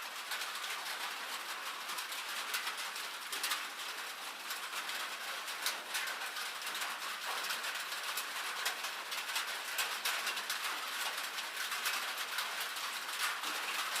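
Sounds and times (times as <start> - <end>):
rain on a tin roof: 0.0 - 14.0.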